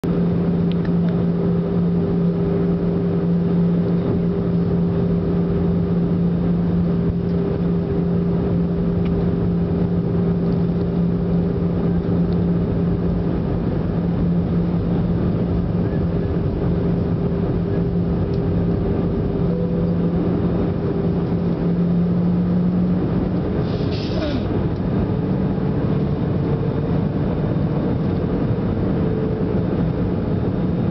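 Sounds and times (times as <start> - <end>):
airliner engine drone in cabin: 0.0 - 30.9.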